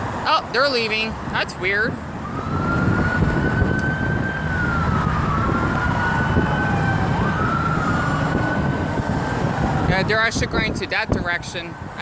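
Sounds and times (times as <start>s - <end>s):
emergency sirens wailing: 0.0s - 12.0s
low rumble of vehicle engines: 0.0s - 12.0s.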